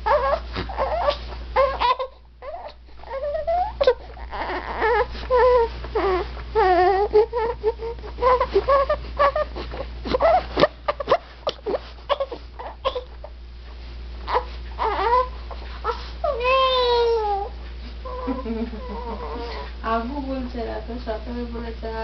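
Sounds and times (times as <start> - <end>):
dog whining and yowling: 0.0 - 13.4, 14.2 - 19.7.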